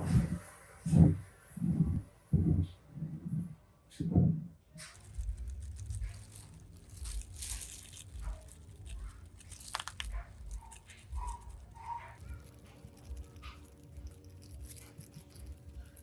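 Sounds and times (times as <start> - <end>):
scraping and rubbing noises: 0.0 - 16.0.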